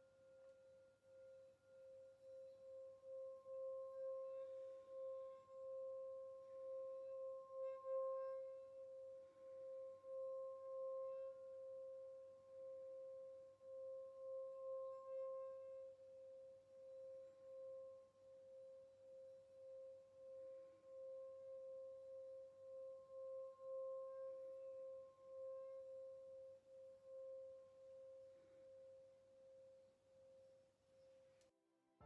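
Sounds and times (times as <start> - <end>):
singing bowl ringing: 1.2 - 29.1.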